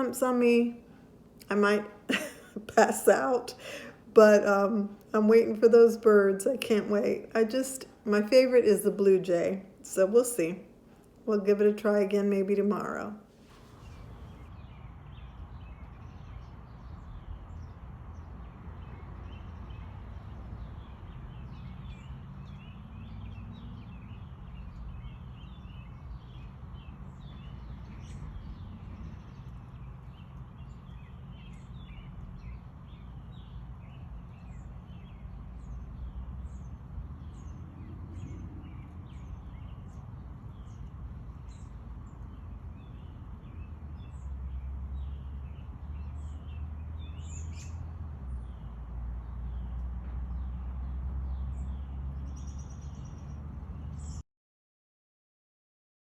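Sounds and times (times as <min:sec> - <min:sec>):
low steady rumble: 0:00.0 - 0:54.2
small birds chirping: 0:00.0 - 0:54.2.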